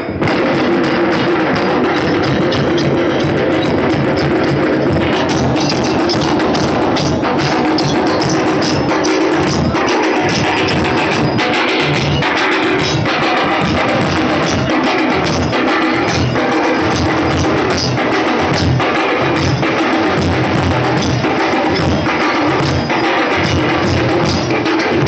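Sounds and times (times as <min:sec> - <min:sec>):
music with loud drumbeats: 0:00.0 - 0:25.0.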